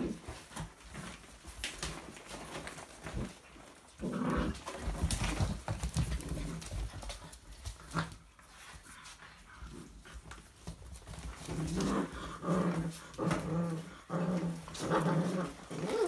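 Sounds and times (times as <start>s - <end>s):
puppy bodies bumping: 0.0s - 16.0s.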